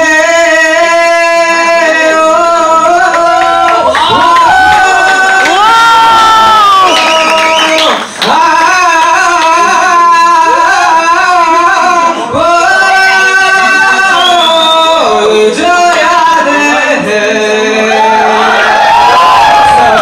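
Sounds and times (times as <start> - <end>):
man singing into microphone: 0.0 - 20.0.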